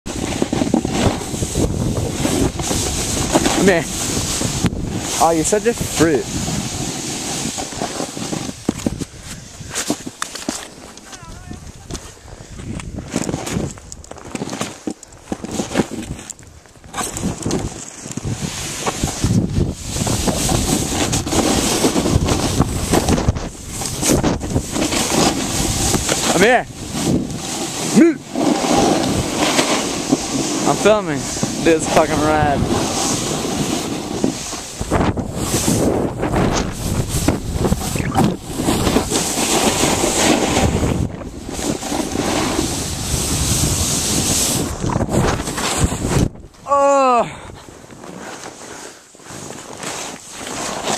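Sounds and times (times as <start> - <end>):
wind buffeting microphone: 0.0 - 10.2, 10.8 - 14.2, 15.4 - 47.9
snowboard scraping through snow: 0.1 - 16.3, 16.9 - 50.9.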